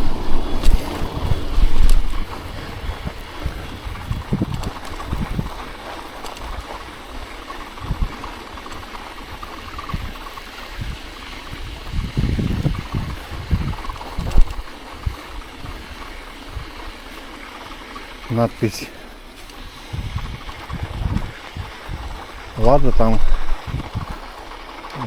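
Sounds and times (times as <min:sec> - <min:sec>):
bicycle tyres rolling through snow: 0:00.0 - 0:25.0
wind buffeting microphone: 0:00.0 - 0:25.0.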